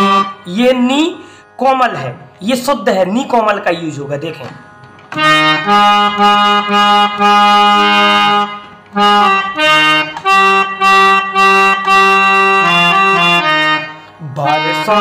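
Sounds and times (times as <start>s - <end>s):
harmonium melody: 0.0s - 15.0s.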